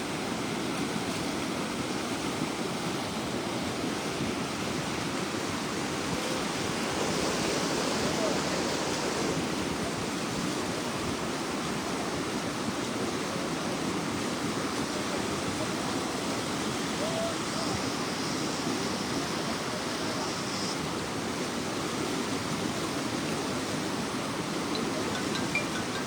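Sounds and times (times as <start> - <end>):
floodwater rushing: 2.0 - 26.0.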